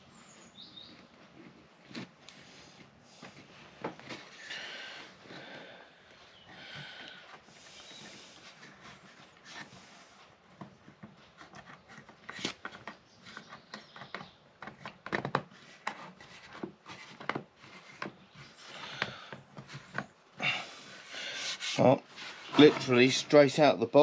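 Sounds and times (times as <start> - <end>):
wood scraping against wood: 0.4 - 23.7.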